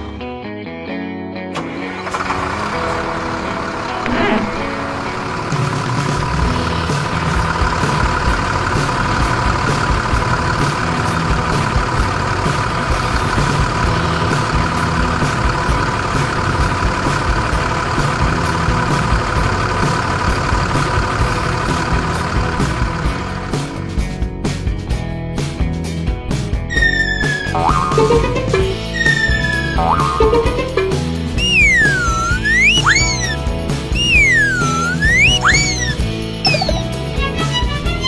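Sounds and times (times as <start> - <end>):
tractor engine running: 1.5 - 25.1, 26.5 - 38.0.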